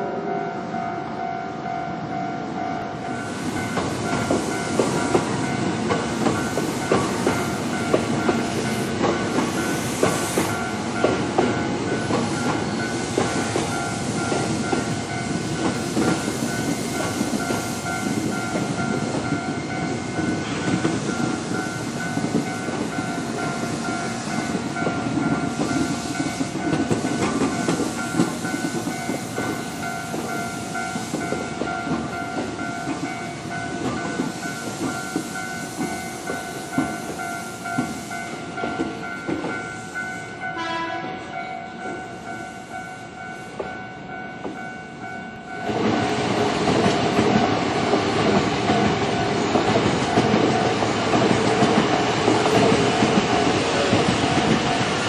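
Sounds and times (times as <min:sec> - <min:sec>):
train wheels clattering: 0:03.2 - 0:41.0, 0:45.4 - 0:55.0.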